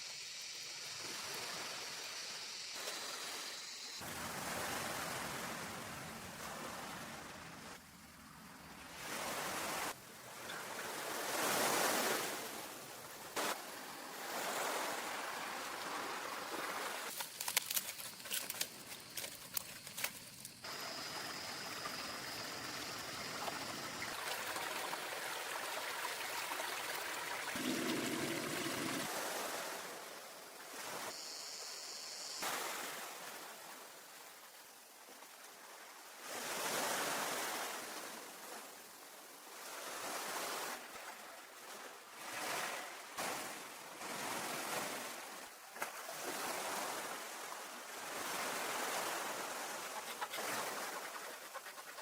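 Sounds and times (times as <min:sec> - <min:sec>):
sea waves washing on shore: 0:00.0 - 0:07.8, 0:08.6 - 0:31.6, 0:32.3 - 0:52.0.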